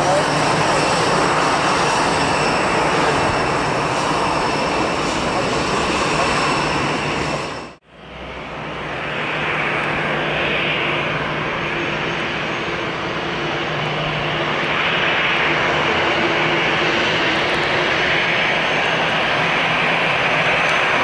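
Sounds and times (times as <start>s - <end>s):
jet engines rushing hum: 0.0s - 21.0s.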